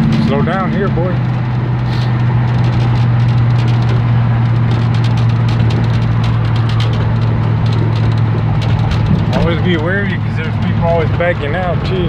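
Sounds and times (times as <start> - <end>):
light clicks and rattles: 0.0 - 12.0
low engine drone: 0.0 - 12.0.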